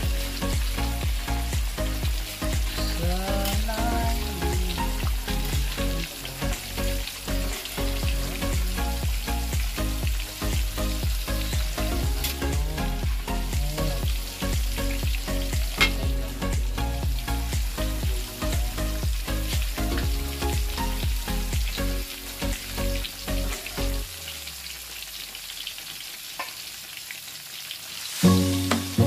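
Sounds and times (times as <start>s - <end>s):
chicken sizzling in hot oil: 0.0s - 29.0s.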